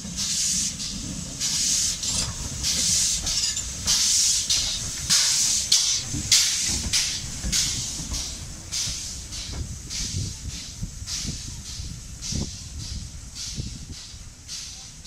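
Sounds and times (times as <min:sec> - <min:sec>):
steam locomotive puffing: 0:00.0 - 0:15.0.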